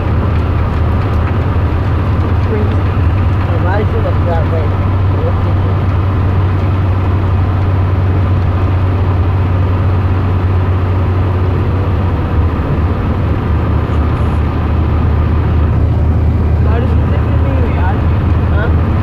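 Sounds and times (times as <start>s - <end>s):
car engine low drone: 0.0s - 19.0s.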